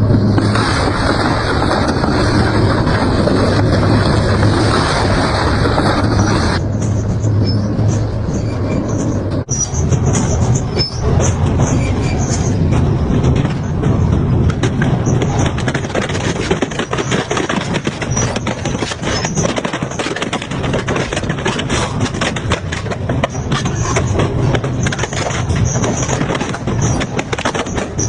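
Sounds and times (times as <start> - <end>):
metal cracking and crunching: 0.0 - 7.1, 9.8 - 28.0
metal shredder drone: 0.0 - 28.0.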